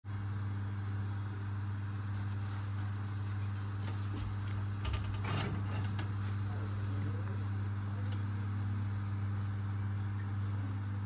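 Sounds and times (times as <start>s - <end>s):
electric oven humming: 0.1s - 11.0s.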